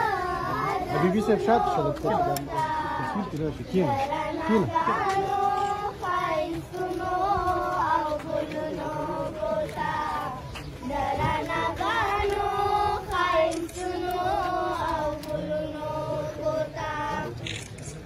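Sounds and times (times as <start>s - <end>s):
children singing a chant: 0.0s - 17.4s.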